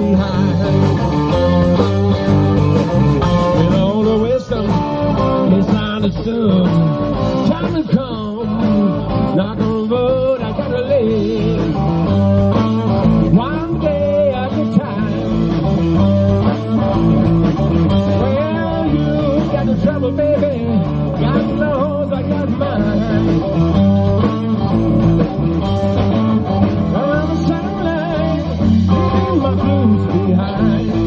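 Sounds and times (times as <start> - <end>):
man singing: 0.0 - 1.8, 3.3 - 15.8, 18.0 - 24.6, 26.8 - 31.0
electric bass: 0.0 - 31.0
electric guitar: 0.0 - 31.0.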